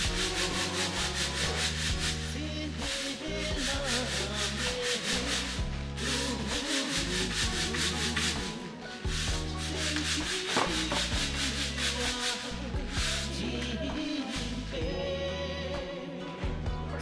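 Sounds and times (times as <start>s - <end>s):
grain rattling in a tray: 0.0s - 14.8s
background music with bass line: 0.0s - 17.0s.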